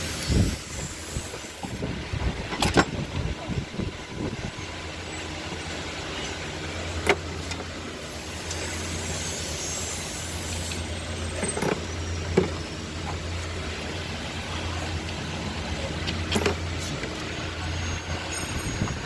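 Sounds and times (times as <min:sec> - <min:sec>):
car engine idling: 0:00.0 - 0:18.5.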